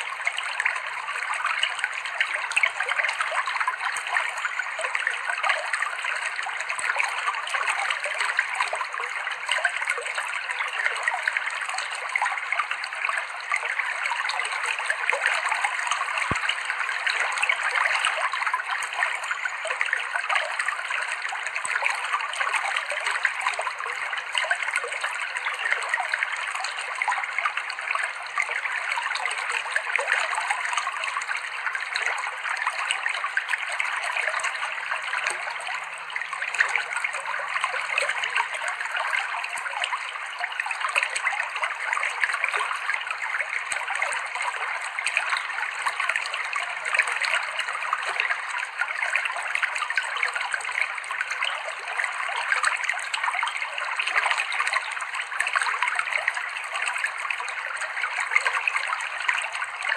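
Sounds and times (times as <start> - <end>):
stream water over rocks: 0.0 - 59.9.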